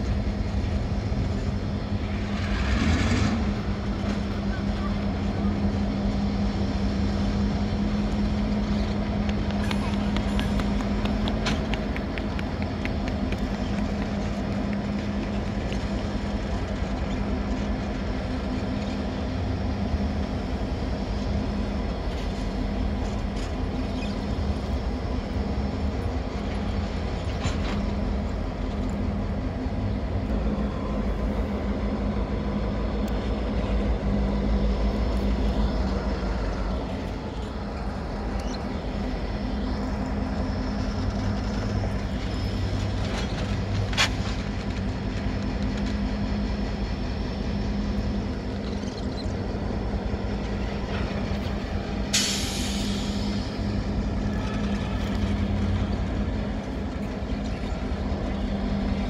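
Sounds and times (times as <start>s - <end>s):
locomotive diesel engines rumbling: 0.0s - 59.0s.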